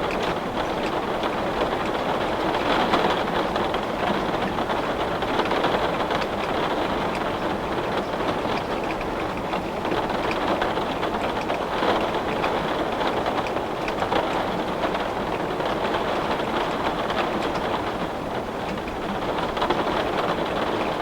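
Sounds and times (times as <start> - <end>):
rain on a window pane: 0.0 - 21.0.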